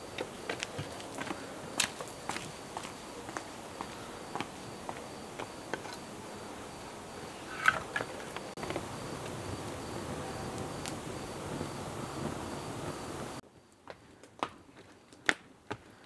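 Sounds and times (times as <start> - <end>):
cricket chirping: 0.0 - 13.8.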